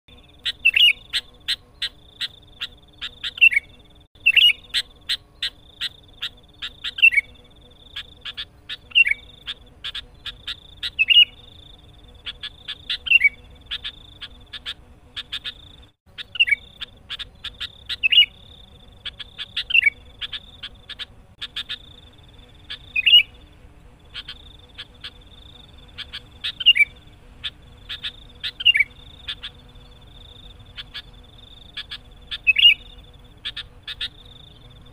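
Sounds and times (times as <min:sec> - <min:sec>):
bird chattering notes: 0:00.1 - 0:34.9
high-pitched hum: 0:00.1 - 0:34.9.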